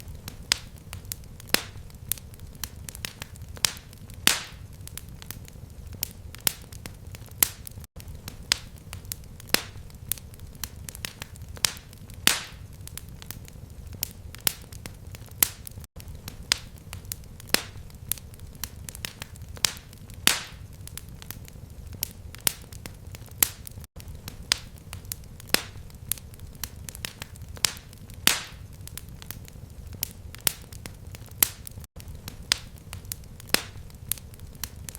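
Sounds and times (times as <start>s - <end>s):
fire crackling: 0.0s - 34.9s
low rumble of flame: 0.0s - 34.9s.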